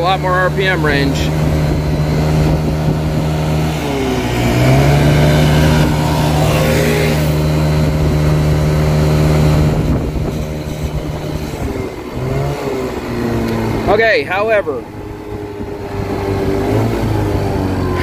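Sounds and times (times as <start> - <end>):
scooter engine revving: 0.0 - 18.0.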